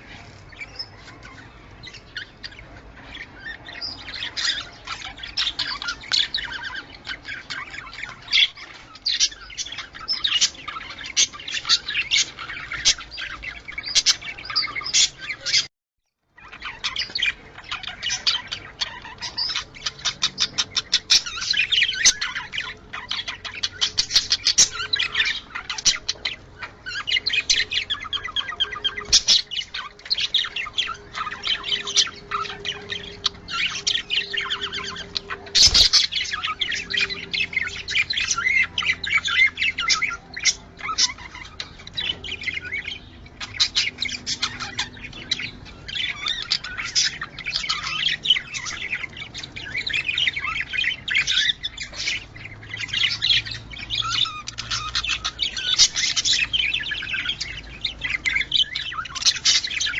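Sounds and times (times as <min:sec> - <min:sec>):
budgerigars chattering: 0:00.0 - 0:15.7, 0:16.4 - 0:59.9.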